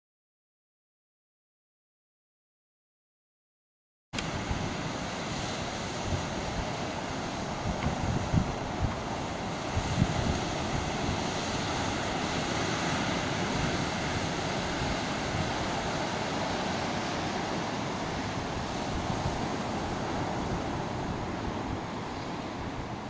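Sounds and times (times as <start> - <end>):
waves breaking on shore: 4.2 - 23.0.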